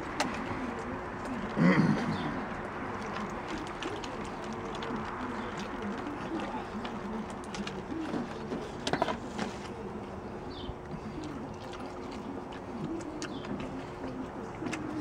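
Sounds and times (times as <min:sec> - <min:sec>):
people chewing: 0:00.0 - 0:15.0.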